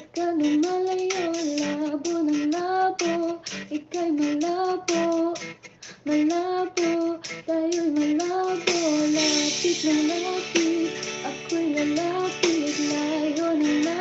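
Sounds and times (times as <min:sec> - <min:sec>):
woman singing into microphone: 0:00.0 - 0:14.0.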